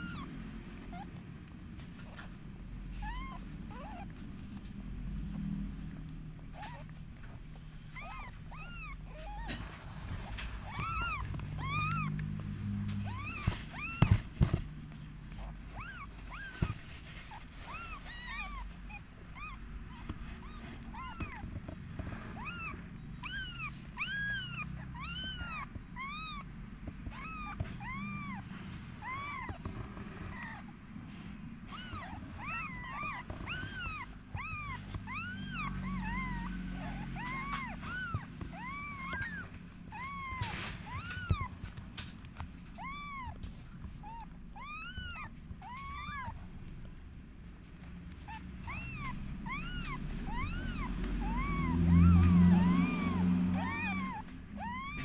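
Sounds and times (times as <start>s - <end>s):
kittens mewing: 0.0s - 55.0s.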